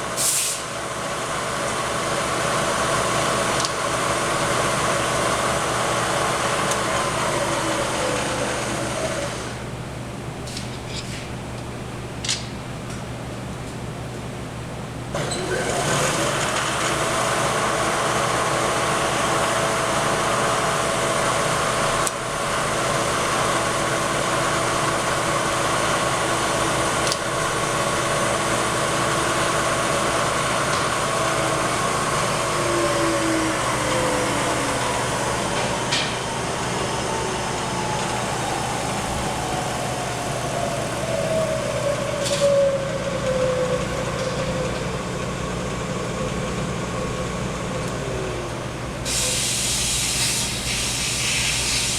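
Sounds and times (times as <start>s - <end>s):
milling machine motor running: 0.9s - 9.7s, 15.2s - 50.6s.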